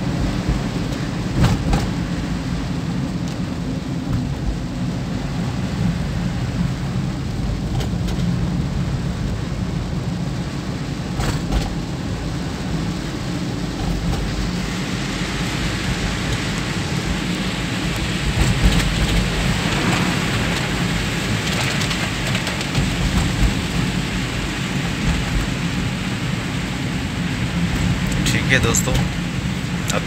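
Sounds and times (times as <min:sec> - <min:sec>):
car driving rumble: 0:00.0 - 0:30.0
heavy rain on car roof: 0:00.0 - 0:30.0.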